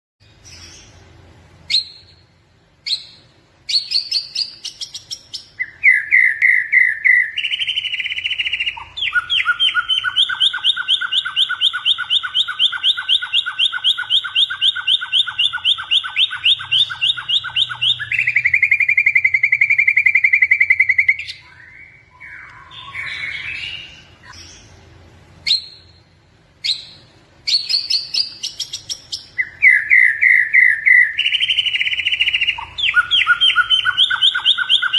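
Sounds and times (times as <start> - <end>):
songbird singing with trills: 1.6 - 24.8, 25.4 - 34.9.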